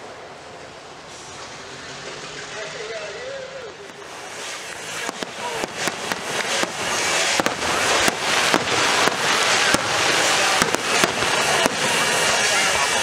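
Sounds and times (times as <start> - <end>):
dense fireworks crackle: 0.0 - 13.0
fireworks bursting with sharp bangs: 0.0 - 13.0.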